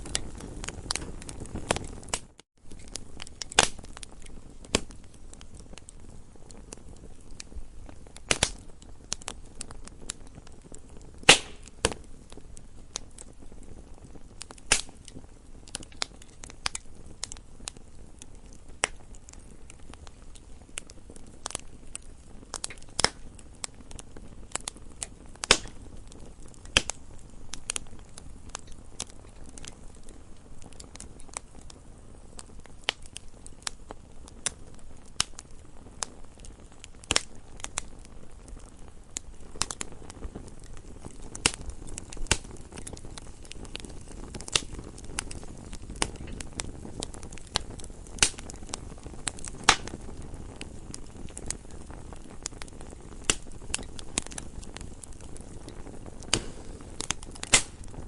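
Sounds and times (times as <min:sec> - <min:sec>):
campfire crackling and popping: 0:00.0 - 0:58.0
low steady hiss: 0:00.0 - 0:58.0.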